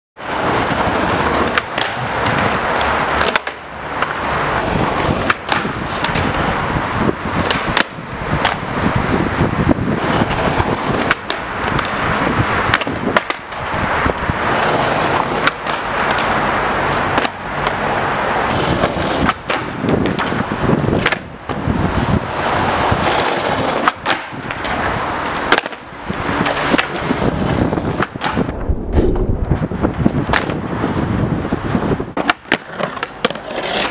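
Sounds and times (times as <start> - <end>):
skateboard clacking: 0.2 - 28.5, 29.9 - 31.3, 32.1 - 33.9
skateboard scraping on concrete: 0.2 - 33.9
skateboard wheels rolling on asphalt: 0.2 - 33.9.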